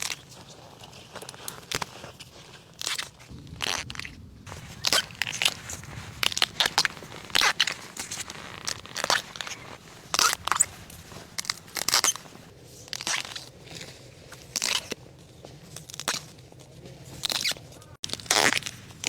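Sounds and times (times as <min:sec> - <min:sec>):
dry bamboo crunching underfoot: 0:00.0 - 0:19.0.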